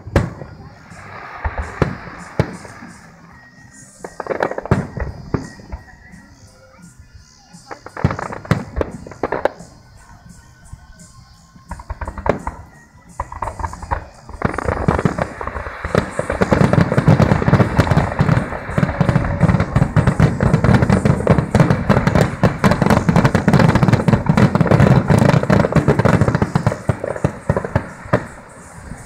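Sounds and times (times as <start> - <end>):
fireworks barrage: 0.0 - 29.0.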